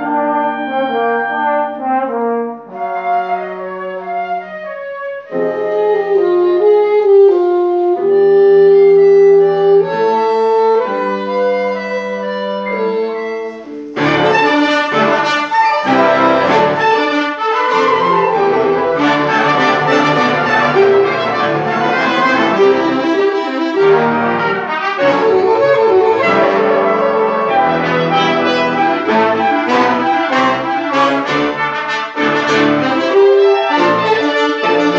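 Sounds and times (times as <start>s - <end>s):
brass ensemble playing: 0.0s - 34.9s.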